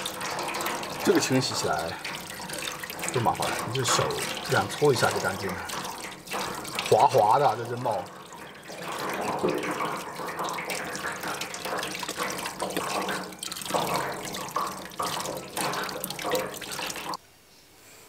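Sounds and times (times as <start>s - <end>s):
tap water splashing into sink: 0.0s - 17.2s.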